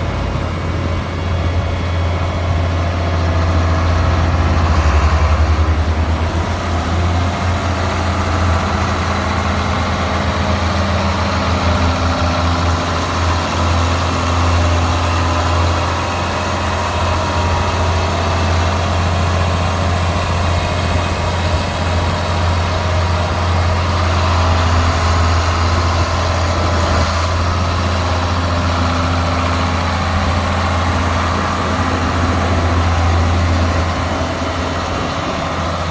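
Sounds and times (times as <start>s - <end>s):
diesel tractor engine idling: 0.0s - 35.9s.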